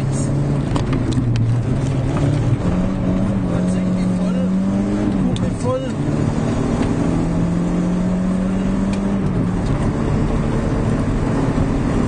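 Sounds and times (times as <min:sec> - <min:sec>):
rally car engine from inside: 0:00.0 - 0:12.0
road noise: 0:00.0 - 0:12.0.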